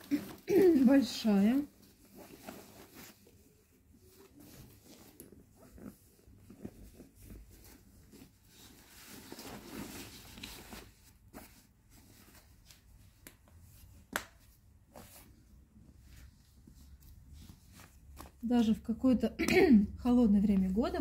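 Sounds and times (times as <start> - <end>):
quilted fabric rustling: 0.0 - 18.9.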